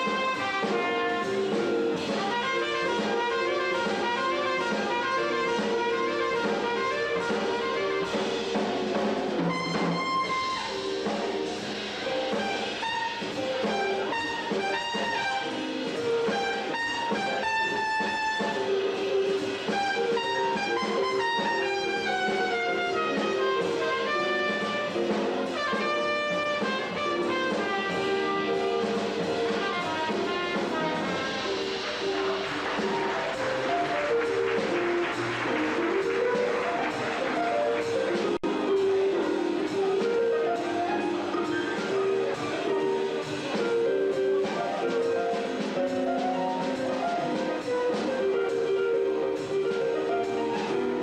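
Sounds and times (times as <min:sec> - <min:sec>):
jazz band with drum kit: 0:00.0 - 0:51.0
trumpet playing jazz melody: 0:00.0 - 0:51.0.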